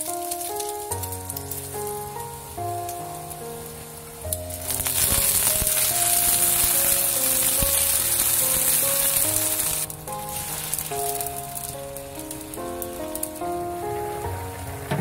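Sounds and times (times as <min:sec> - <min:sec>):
soft background music: 0:00.0 - 0:15.0
water sizzling in hot wok: 0:00.0 - 0:15.0.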